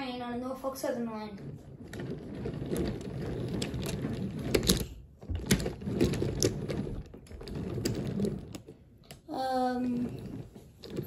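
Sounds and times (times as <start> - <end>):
wooden toy train rolling: 0.0 - 11.0
wooden clicks and clacks: 1.4 - 11.0.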